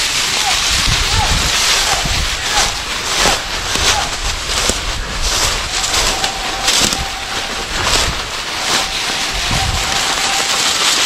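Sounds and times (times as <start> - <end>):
footsteps crunching through dry leaves: 0.0 - 11.0.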